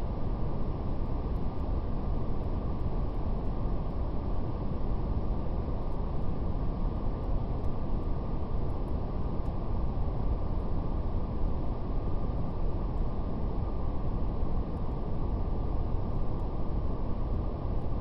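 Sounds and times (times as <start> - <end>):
faint fire crackles: 0.1 - 18.0.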